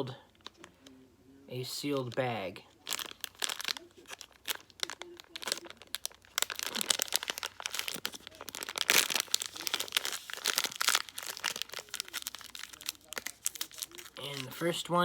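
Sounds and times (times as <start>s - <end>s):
plastic pouch crinkling: 2.0s - 15.0s.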